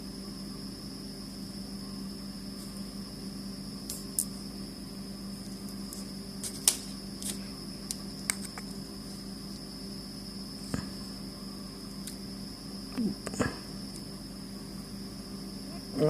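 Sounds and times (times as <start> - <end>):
electrical hum with whine: 0.0 - 16.0.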